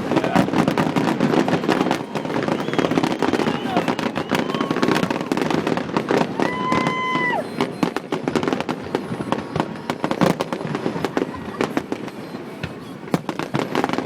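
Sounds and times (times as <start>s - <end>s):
firework whistling tone: 0.0s - 14.0s
fireworks bangs and crackles: 0.0s - 14.0s.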